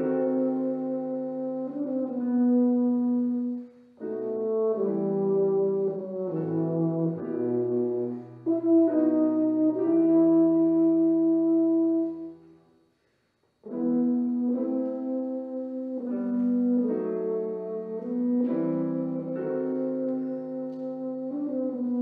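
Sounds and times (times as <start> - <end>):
brass instrument slow melody: 0.0 - 13.0, 13.6 - 22.0.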